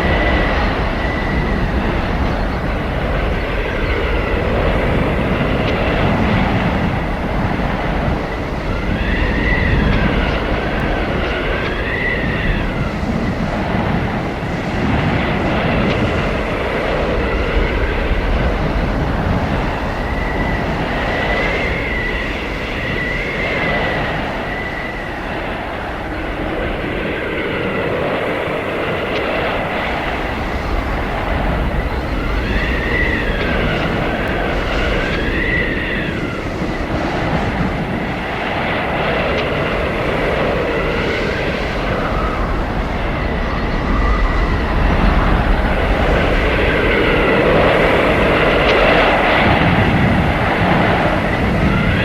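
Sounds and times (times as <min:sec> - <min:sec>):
blizzard wind roaring: 0:00.0 - 0:52.0
whistling wind howls: 0:00.0 - 0:52.0.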